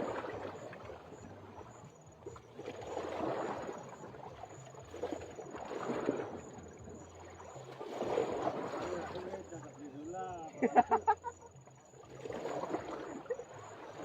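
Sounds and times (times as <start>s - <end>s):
water waves lapping: 0.0s - 14.0s.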